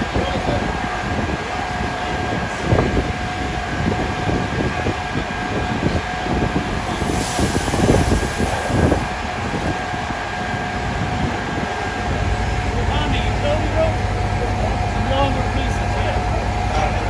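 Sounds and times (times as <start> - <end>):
wind buffeting microphone: 0.0 - 15.0
engine and street noise: 0.0 - 17.0.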